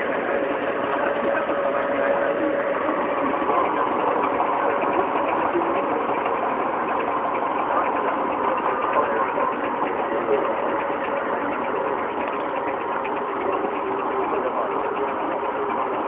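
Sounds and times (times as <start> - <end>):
two-stroke car engine putter: 0.0 - 16.0.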